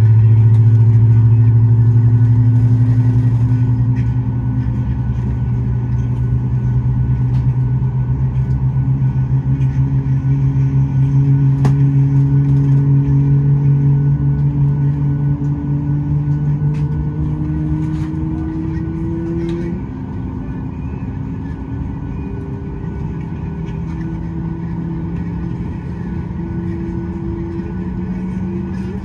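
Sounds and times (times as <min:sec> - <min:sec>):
jet engines humming in cabin: 0:00.0 - 0:29.0.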